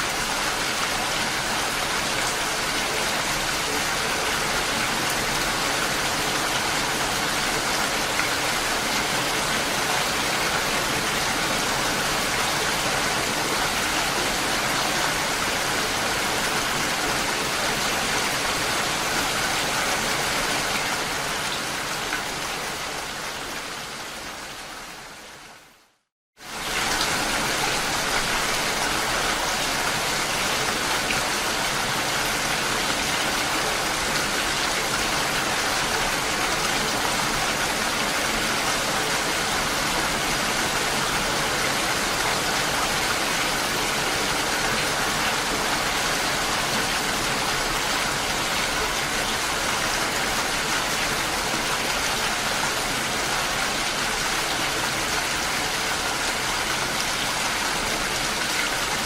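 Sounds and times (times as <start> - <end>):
dense rain falling: 0.0 - 59.0.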